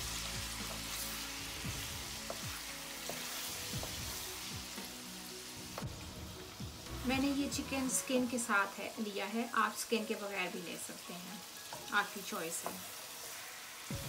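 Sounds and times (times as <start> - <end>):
chicken sizzling in frying fat: 0.0 - 14.0.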